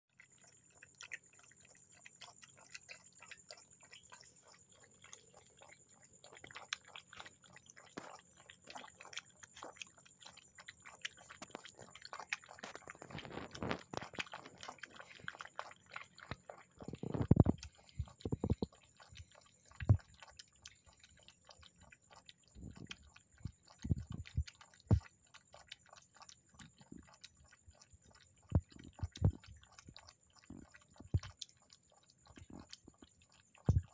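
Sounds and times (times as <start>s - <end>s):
puppy lapping milk: 0.1s - 33.9s.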